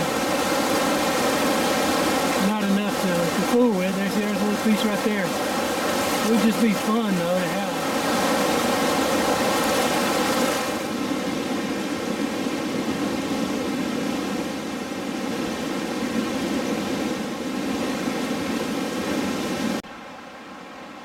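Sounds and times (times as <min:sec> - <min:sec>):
fast-flowing river rushing: 0:00.0 - 0:21.0.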